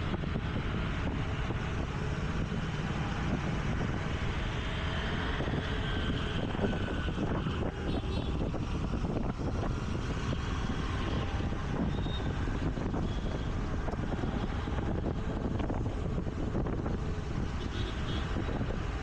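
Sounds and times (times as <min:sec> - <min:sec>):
city traffic hum: 0:00.0 - 0:19.0
wind rushing over microphone: 0:00.0 - 0:19.0.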